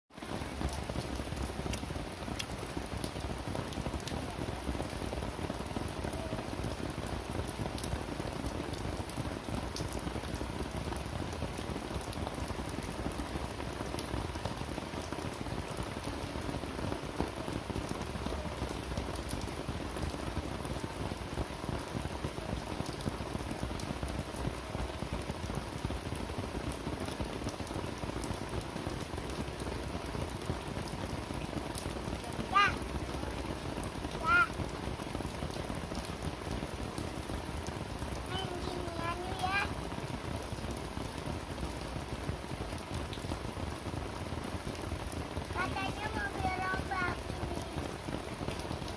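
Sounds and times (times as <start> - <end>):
steady rain falling: 0.1 - 48.9.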